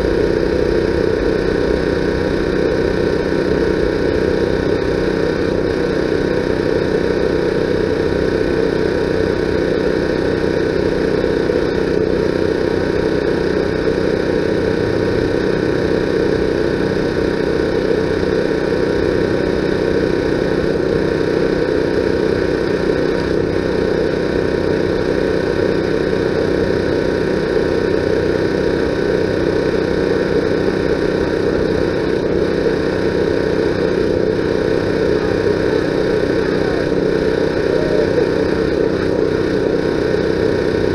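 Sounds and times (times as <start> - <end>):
motor humming steadily: 0.0 - 40.9.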